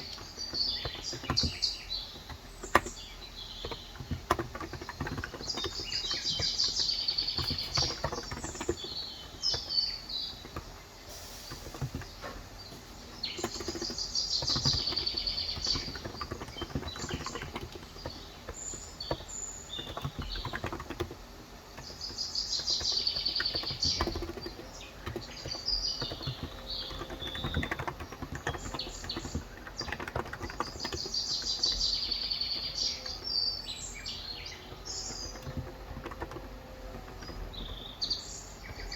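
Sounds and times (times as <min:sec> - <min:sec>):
soft keyboard keystrokes: 0:00.0 - 0:38.9.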